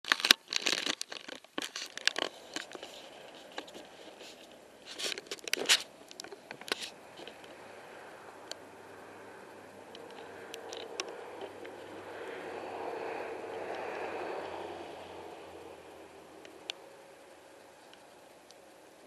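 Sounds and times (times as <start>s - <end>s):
crackling and rustling at microphone: 0.0s - 19.0s.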